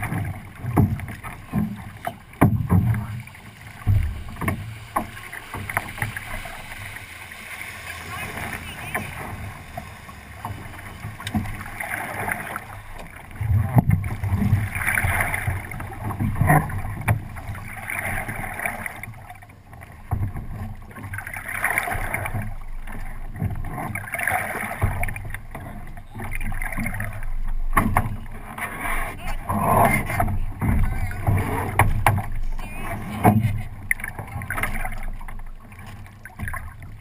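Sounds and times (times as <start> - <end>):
water rushing along a hull: 0.0 - 37.0.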